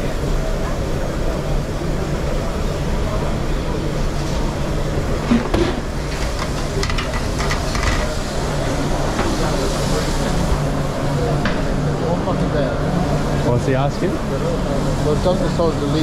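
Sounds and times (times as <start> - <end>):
mechanical drone with low hum: 0.0 - 16.0.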